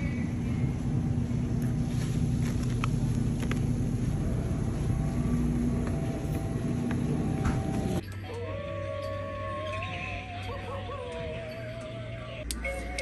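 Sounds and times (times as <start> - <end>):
faint hum: 0.0 - 13.0
low rumble of store background: 0.0 - 13.0.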